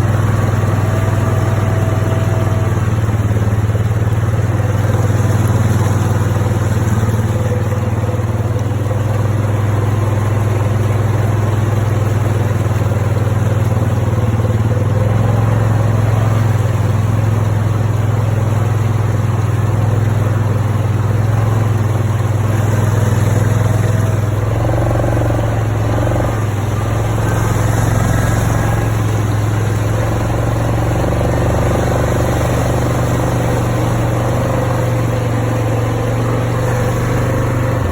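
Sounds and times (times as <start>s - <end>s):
vehicle engine humming: 0.0s - 37.9s.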